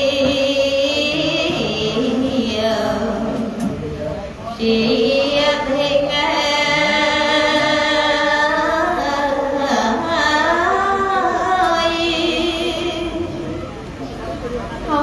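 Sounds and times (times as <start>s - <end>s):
woman chanting: 0.0s - 3.6s, 4.5s - 13.5s.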